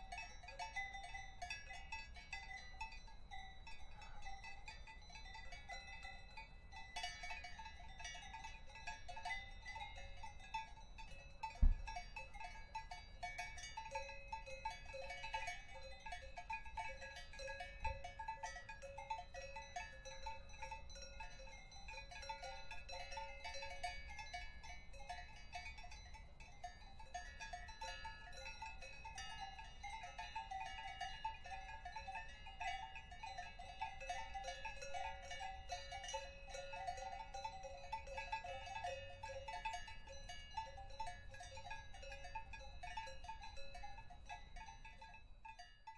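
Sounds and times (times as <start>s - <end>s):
cowbells clanking: 0.0s - 45.9s.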